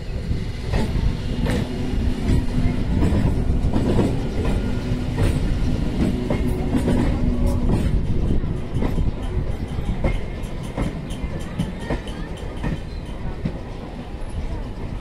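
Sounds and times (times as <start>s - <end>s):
train wheels clacking over rail joints: 0.2s - 15.0s.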